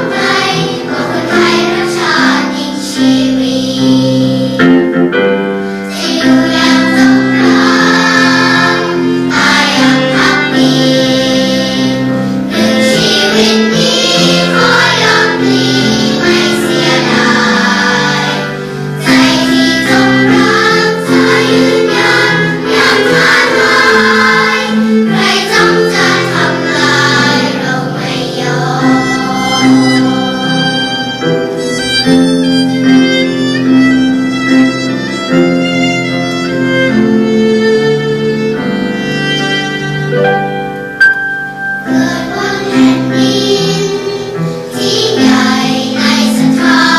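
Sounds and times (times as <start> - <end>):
children's choir singing: 0.0 - 40.2, 41.0 - 46.9
instrumental accompaniment: 0.0 - 46.9
violin melody: 0.0 - 46.9.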